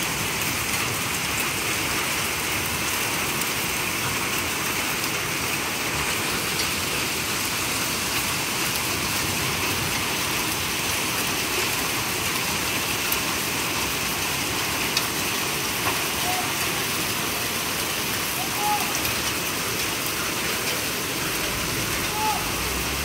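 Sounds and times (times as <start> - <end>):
faint hail ticks: 0.0 - 23.0
hail and rain falling: 0.0 - 23.0.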